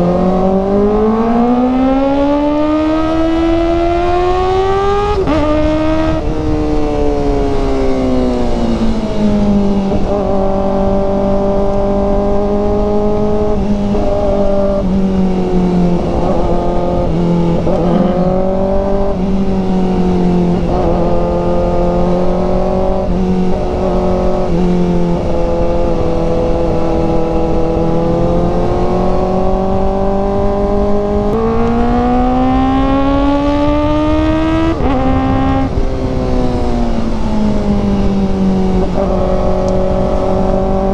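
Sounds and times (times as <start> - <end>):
low wind rumble: 0.0 - 40.9
motorcycle engine running: 2.2 - 40.9.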